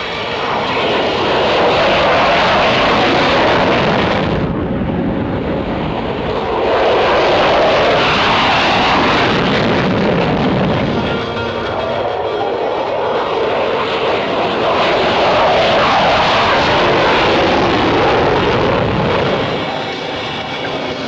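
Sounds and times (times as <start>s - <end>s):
aircraft engine passing: 0.0s - 21.0s.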